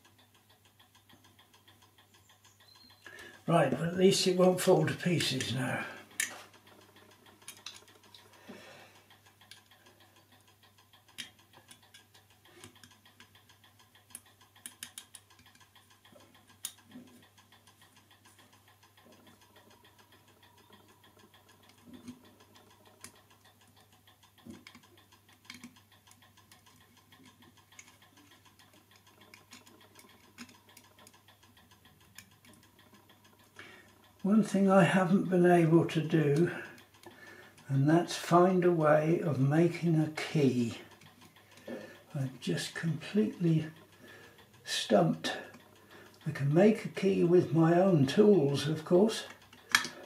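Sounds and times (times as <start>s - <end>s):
small clicks and taps: 0.0s - 50.0s.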